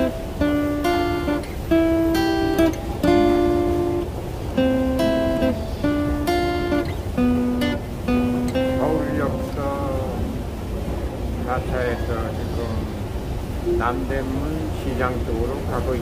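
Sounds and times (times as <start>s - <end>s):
acoustic guitar strumming: 0.0s - 10.6s, 13.6s - 16.0s.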